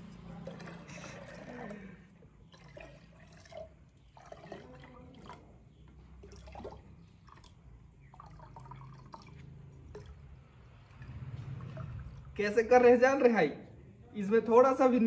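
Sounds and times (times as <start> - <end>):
water dripping into steel tumbler: 0.4 - 12.5.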